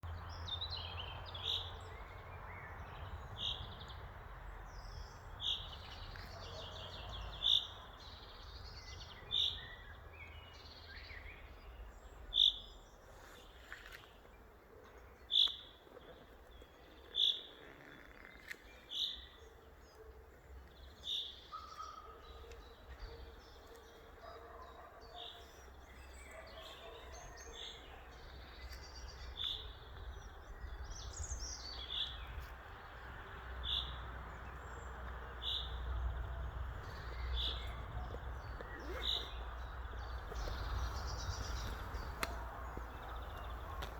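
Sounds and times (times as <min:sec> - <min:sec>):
birds chirping softly: 0:00.0 - 0:43.9.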